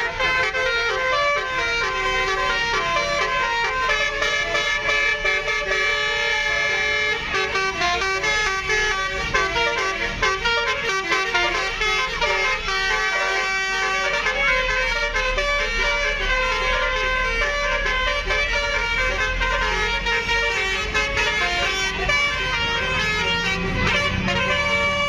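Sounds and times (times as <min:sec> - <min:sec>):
musical bus air horns: 0:00.0 - 0:25.0.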